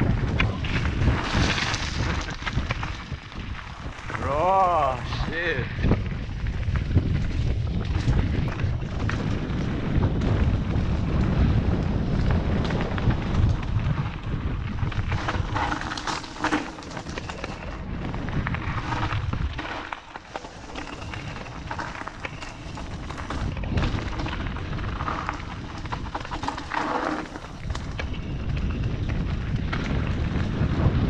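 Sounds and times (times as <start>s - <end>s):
tyres crunching over stones: 0.0s - 11.3s, 12.2s - 31.0s
bike rattling: 0.0s - 31.0s
wind rumbling on microphone: 0.0s - 31.0s.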